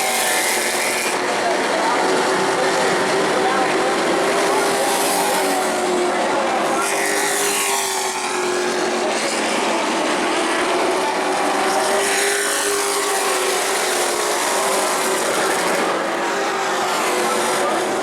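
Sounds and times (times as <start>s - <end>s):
race truck engines passing: 0.0s - 18.0s.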